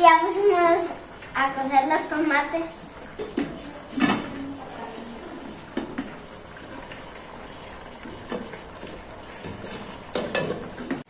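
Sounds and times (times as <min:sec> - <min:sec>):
water hissing near the boil: 0:00.0 - 0:11.0.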